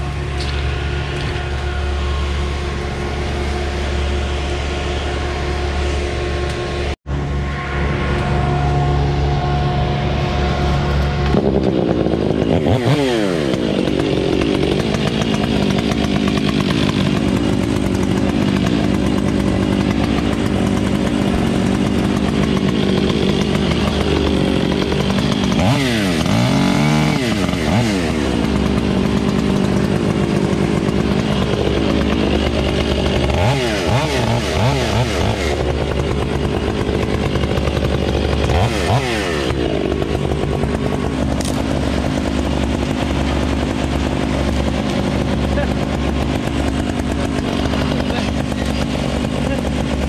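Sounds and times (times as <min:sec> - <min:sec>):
chainsaw engine revving: 0:00.0 - 0:50.0
steady engine hum: 0:00.0 - 0:50.0.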